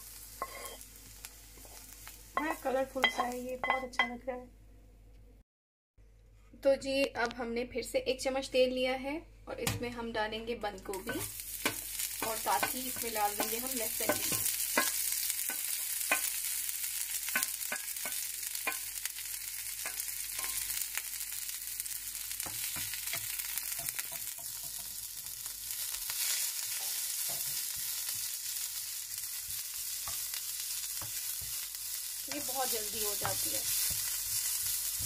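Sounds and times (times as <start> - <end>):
vegetables sizzling in a pan: 0.0 - 4.2, 10.8 - 35.0.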